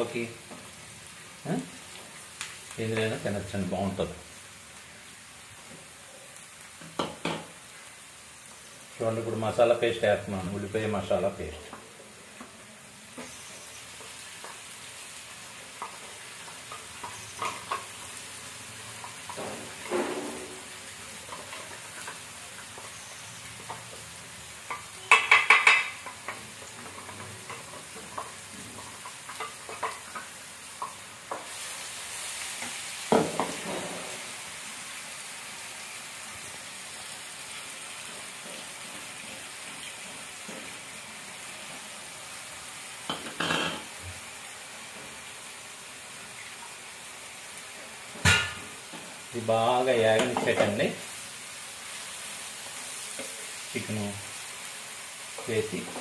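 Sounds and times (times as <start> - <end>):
onions sizzling in oil: 0.0 - 56.0.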